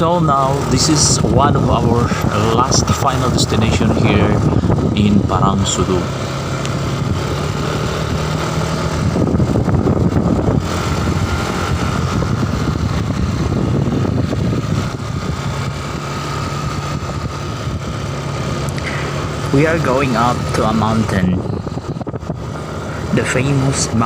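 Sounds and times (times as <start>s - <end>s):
road and wind noise: 0.0s - 24.0s
scooter engine running: 0.0s - 24.0s.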